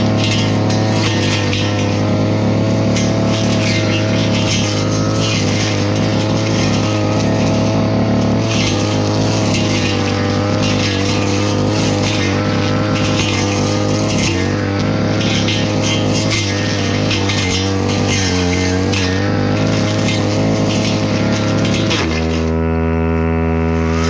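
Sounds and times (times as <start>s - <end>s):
brush cutter engine running: 0.0s - 24.0s.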